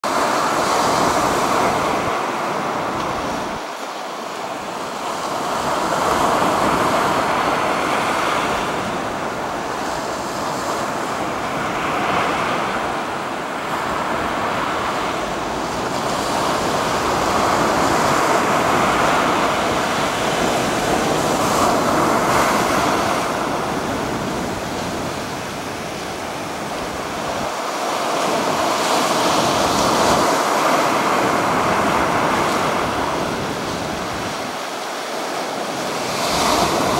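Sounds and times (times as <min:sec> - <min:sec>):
ocean waves breaking: 0:00.0 - 0:36.9.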